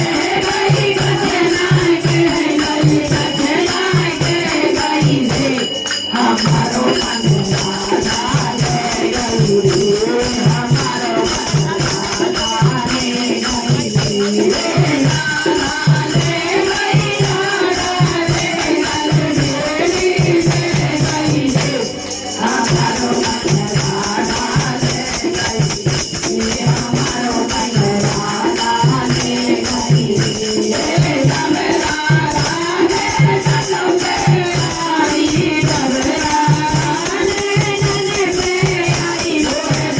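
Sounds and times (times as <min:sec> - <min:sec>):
rattling shaker percussion: 0:00.0 - 0:39.9
steady drum beat: 0:00.0 - 0:39.9.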